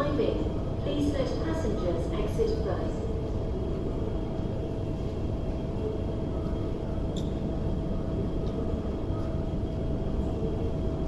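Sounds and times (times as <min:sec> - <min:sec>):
electrical hum: 0:00.0 - 0:11.0
low rumble of metro platform: 0:00.0 - 0:11.0.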